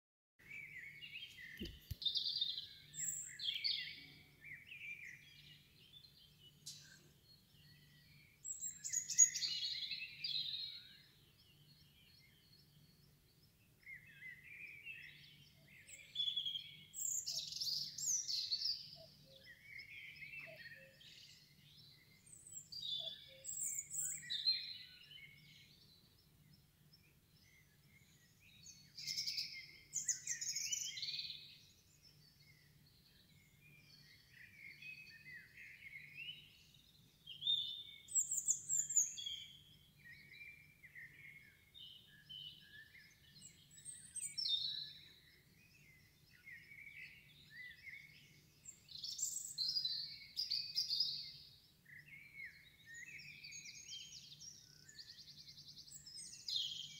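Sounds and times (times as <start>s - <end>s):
birds singing: 0.4s - 56.9s.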